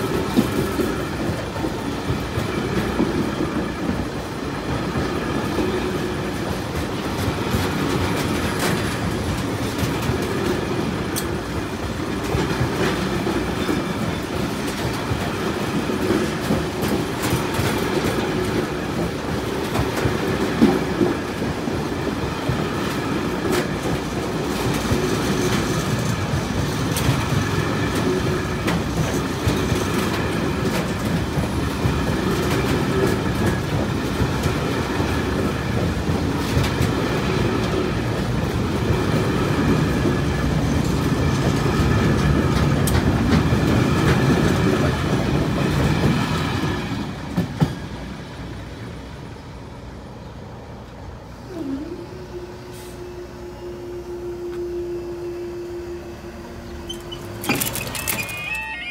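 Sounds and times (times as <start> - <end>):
wheels clacking over rail joints: 0.0 - 48.0, 56.8 - 58.9
freight train rumbling past: 0.0 - 58.9.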